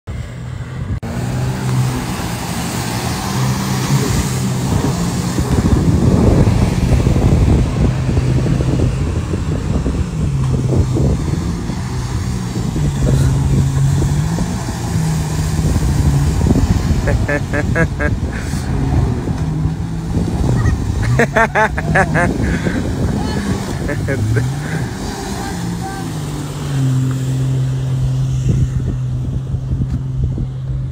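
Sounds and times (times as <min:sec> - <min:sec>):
wind and water rushing: 0:00.1 - 0:30.9
motorboat engine running: 0:01.7 - 0:30.9.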